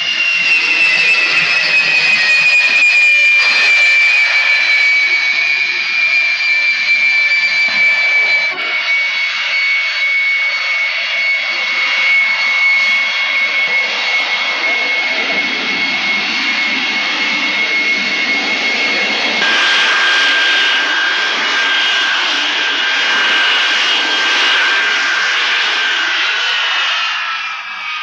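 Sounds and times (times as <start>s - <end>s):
jet engine roar: 0.0s - 28.0s
jet engines whining: 0.0s - 28.0s.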